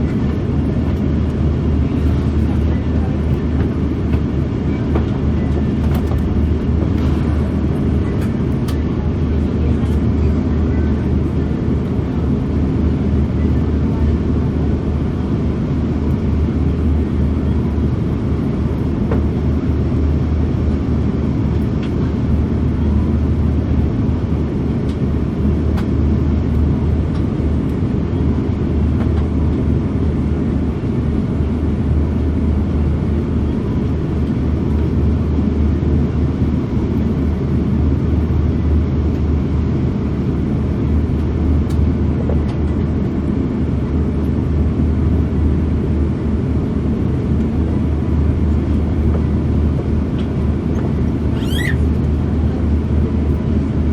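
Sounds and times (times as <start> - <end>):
airplane cabin roar: 0.0 - 53.9.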